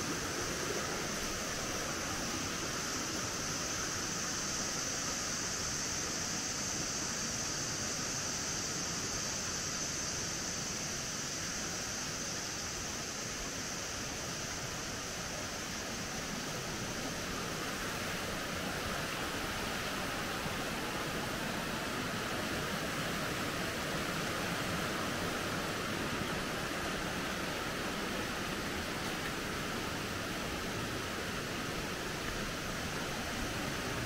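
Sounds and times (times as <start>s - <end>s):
river rushing over stones: 0.0s - 34.0s.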